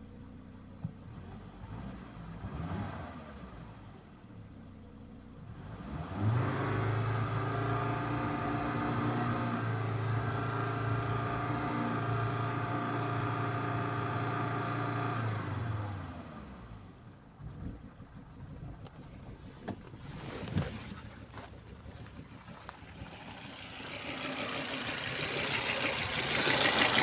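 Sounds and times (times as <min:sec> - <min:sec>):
car engine revving: 0:01.2 - 0:04.0, 0:05.5 - 0:27.0.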